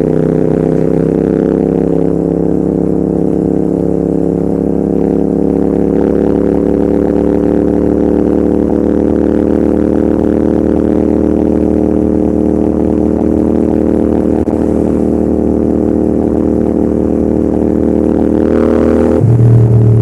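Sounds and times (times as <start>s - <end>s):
motorcycle engine and exhaust running: 0.0s - 20.0s.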